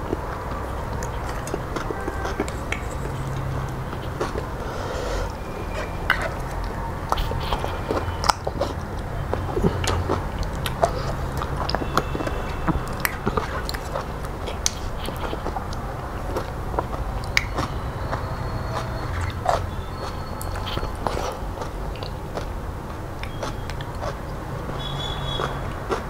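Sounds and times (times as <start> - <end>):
wet chewing and mouth smacks: 0.0 - 26.0.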